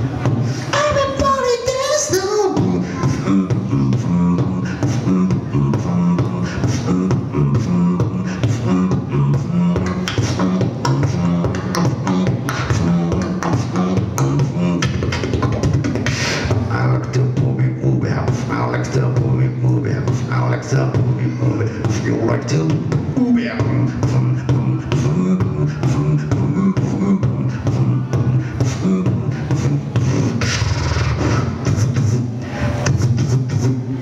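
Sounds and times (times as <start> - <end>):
person beatboxing into microphone: 0.0 - 34.0.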